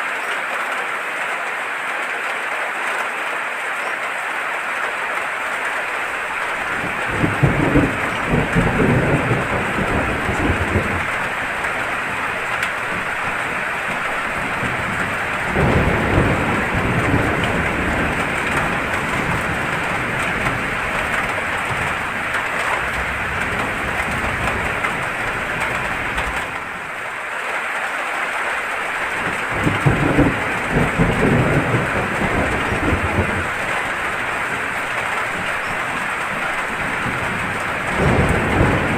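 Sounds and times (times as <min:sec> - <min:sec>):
heavy rain hissing: 0:03.8 - 0:38.9
low thunder rumbles: 0:05.8 - 0:27.1, 0:28.8 - 0:38.9.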